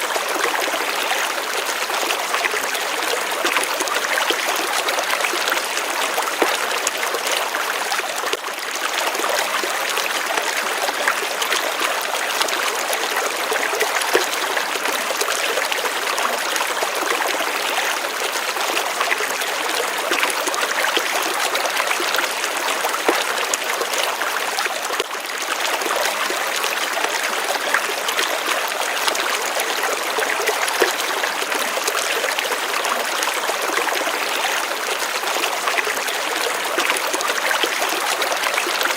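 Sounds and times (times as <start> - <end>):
stream water trickling over stones: 0.0 - 38.9.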